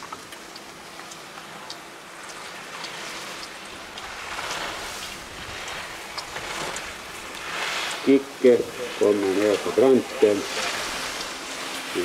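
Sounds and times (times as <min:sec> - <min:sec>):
skis carving on snow: 0:02.4 - 0:12.0.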